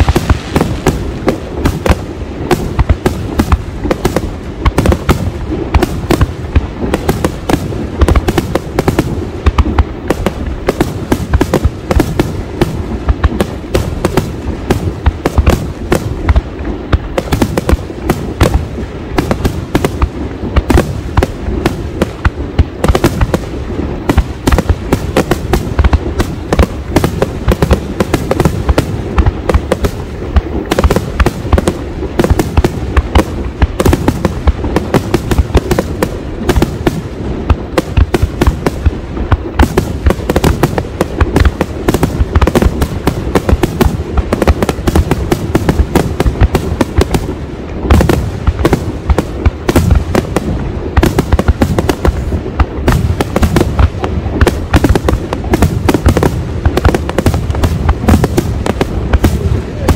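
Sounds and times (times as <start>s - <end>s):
fireworks barrage: 0.0s - 59.9s.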